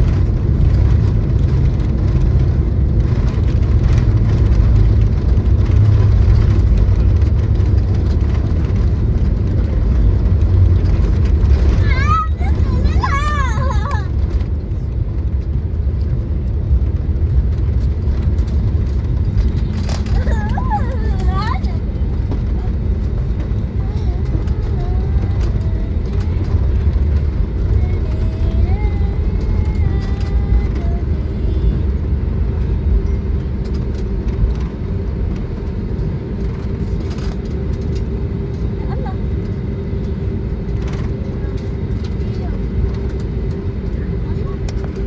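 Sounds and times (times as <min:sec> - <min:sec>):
airliner cabin rumble: 0:00.0 - 0:45.0.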